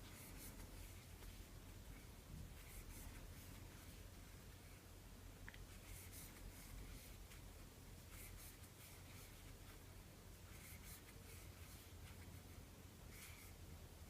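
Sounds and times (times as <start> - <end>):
yarn rustling through stitches: 0.0 - 4.9, 5.6 - 13.8
low steady hum: 0.0 - 14.0.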